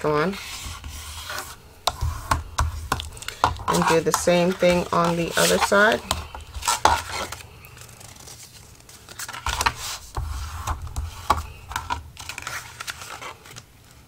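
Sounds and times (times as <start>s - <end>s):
bone folder scraping paper: 0.2s - 13.6s.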